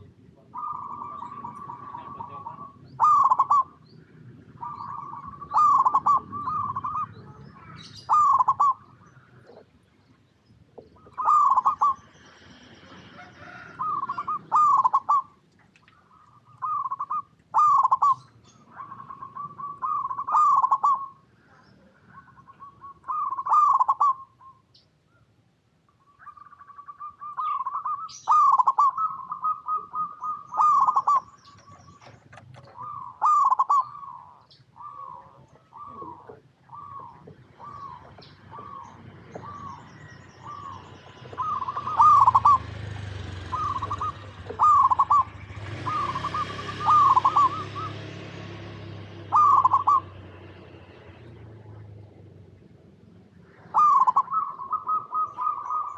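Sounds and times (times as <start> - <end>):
doves cooing: 0.0 - 25.3, 26.0 - 55.9.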